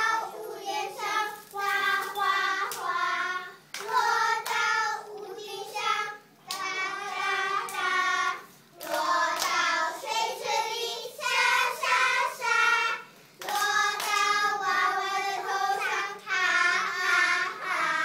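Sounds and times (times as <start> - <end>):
children singing: 0.0 - 18.0.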